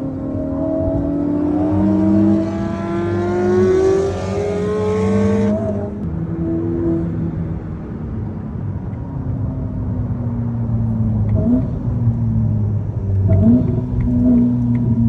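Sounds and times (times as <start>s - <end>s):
sports car engine accelerating: 0.0s - 15.0s.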